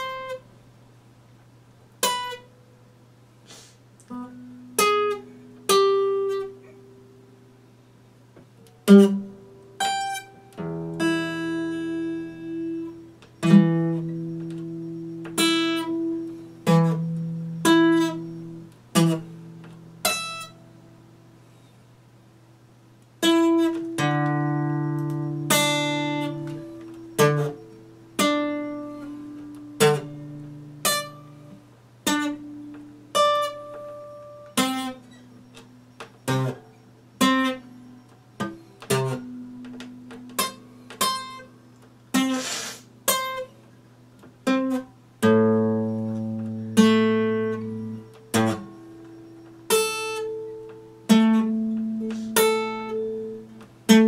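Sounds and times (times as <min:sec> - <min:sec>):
acoustic guitar plucked and strummed: 0:00.0 - 0:00.5, 0:01.9 - 0:02.7, 0:04.0 - 0:07.4, 0:08.4 - 0:21.3, 0:23.1 - 0:54.0.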